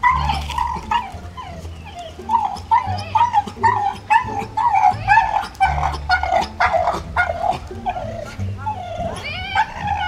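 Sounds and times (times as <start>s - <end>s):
dog whining and yipping: 0.0s - 10.0s.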